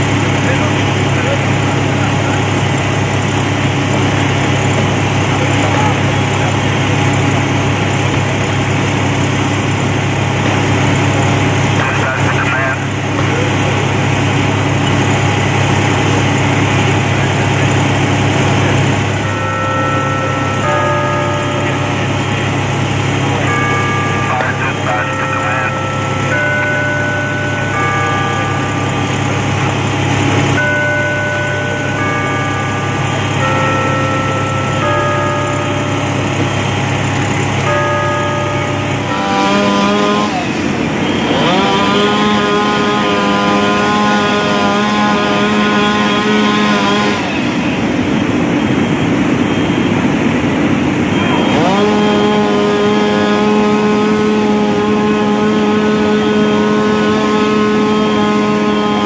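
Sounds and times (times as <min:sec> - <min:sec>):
engine running at high speed: 0:00.0 - 0:59.0
low steady drone: 0:00.0 - 0:59.0.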